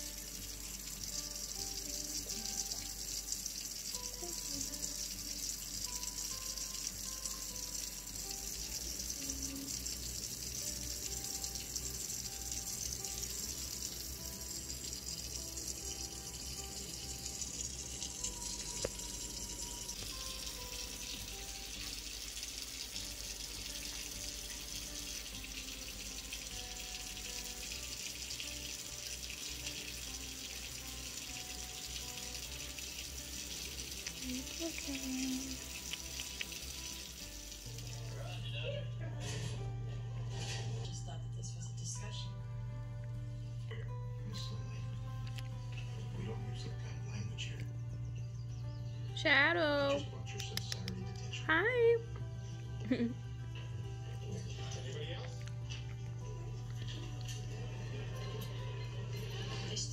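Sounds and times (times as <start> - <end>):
quiet soft melody: 0.0 - 59.9.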